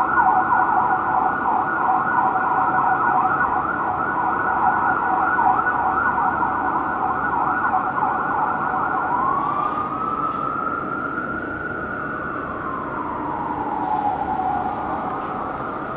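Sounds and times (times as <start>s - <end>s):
siren wail: 0.0s - 15.9s
siren yelp: 0.0s - 15.9s.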